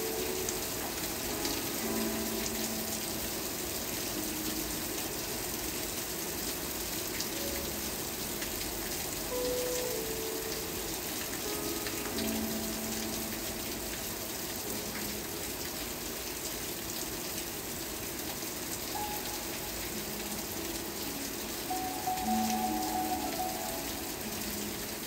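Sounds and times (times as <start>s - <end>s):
faint soft music: 0.0s - 25.0s
steady rain: 0.0s - 25.0s.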